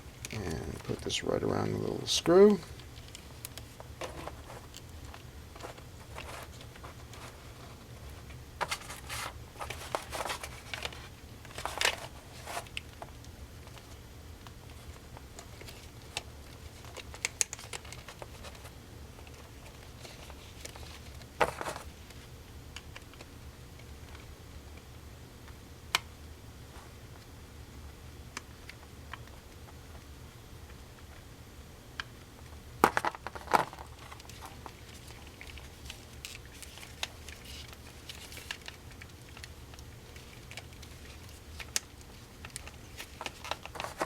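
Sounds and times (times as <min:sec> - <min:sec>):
rustling handling noises: 0:00.0 - 0:24.9, 0:32.0 - 0:44.0
low steady hum: 0:00.0 - 0:44.0.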